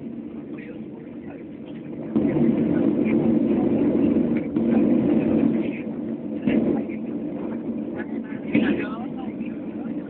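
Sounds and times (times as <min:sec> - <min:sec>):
aircraft cabin hum: 0:00.0 - 0:10.0
faint passenger voices: 0:00.0 - 0:10.0.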